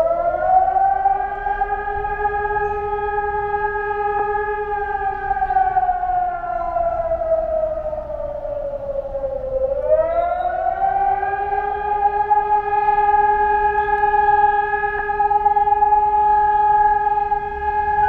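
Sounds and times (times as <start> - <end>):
air raid siren wailing: 0.0 - 18.0.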